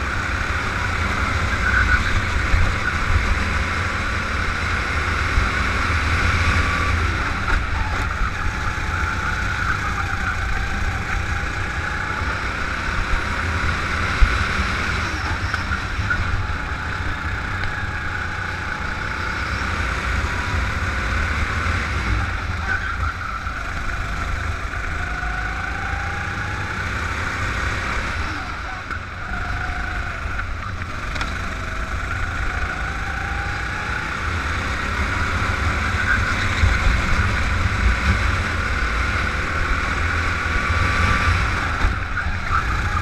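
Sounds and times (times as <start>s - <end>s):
go-kart engine running: 0.0s - 43.0s.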